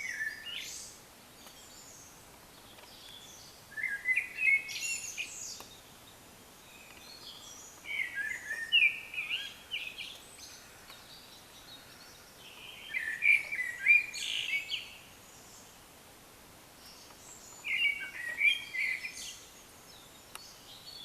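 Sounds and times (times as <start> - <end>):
faint background hiss: 0.0 - 21.0
songbird singing: 0.0 - 21.0.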